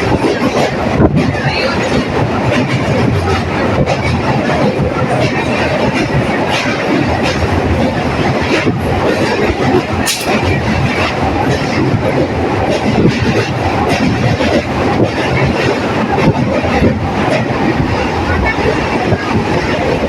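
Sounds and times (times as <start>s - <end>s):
electric train rumbling on track: 0.0s - 20.0s
wheels clicking over rail joints: 0.0s - 20.0s.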